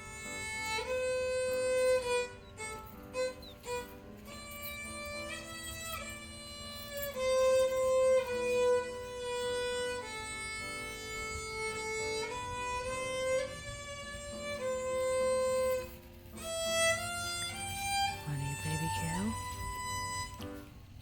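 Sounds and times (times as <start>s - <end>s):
solo violin slow melody: 0.0s - 21.0s.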